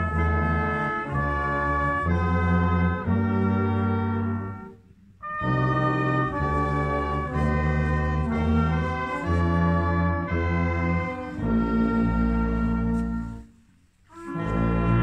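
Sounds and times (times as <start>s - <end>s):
brass ensemble playing chords: 0.0s - 15.0s.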